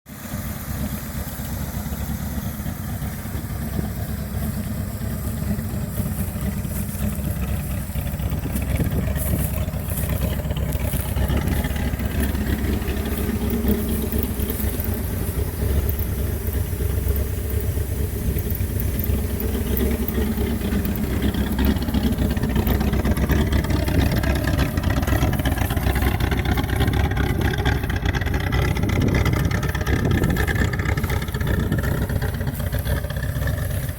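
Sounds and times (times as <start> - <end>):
engine exhaust rumble: 0.0 - 33.9.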